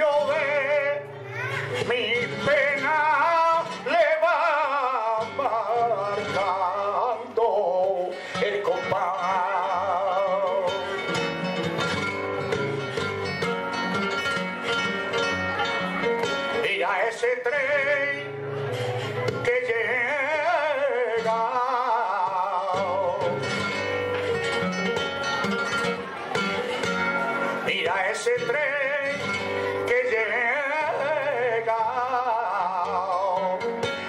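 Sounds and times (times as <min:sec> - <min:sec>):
man singing with vibrato: 0:00.0 - 0:25.8, 0:27.0 - 0:34.0
flamenco guitar: 0:00.0 - 0:34.0.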